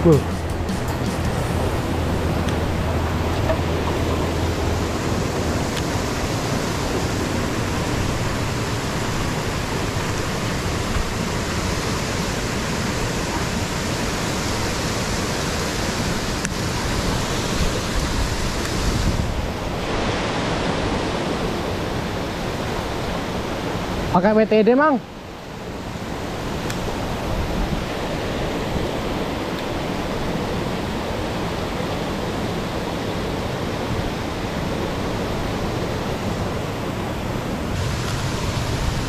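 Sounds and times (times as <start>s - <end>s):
river rushing over rocks: 0.0s - 39.0s.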